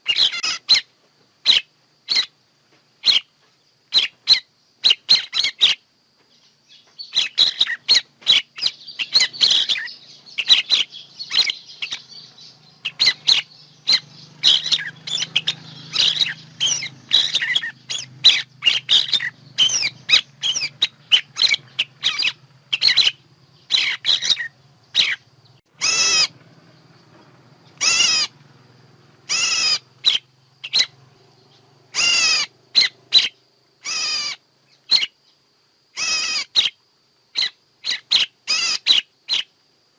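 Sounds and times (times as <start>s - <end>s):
birds rasping calls: 0.0s - 2.4s, 3.0s - 35.3s, 35.9s - 36.8s, 37.4s - 39.5s
birds chirping: 0.0s - 36.8s, 37.4s - 39.6s
faint low hum: 0.0s - 39.9s.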